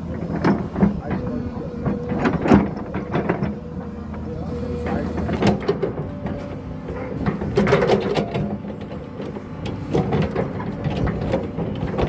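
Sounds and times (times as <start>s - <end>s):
excavator bucket clanks and knocks: 0.0s - 12.0s
excavator engine running: 0.0s - 12.0s.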